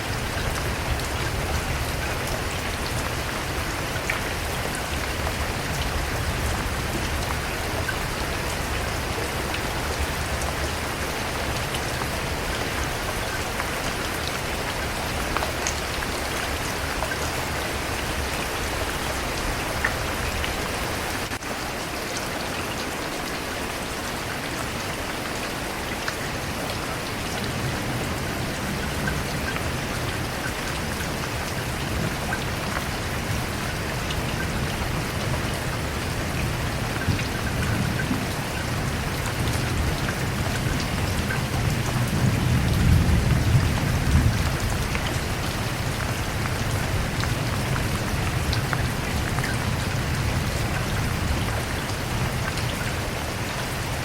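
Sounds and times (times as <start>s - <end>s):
raindrops ticking on a surface: 0.0s - 54.0s
steady rain hiss: 0.0s - 54.0s.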